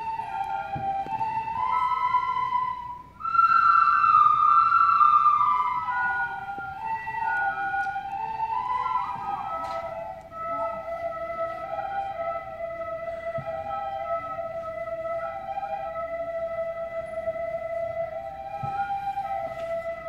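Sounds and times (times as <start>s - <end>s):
children playing recorders: 0.0s - 20.0s.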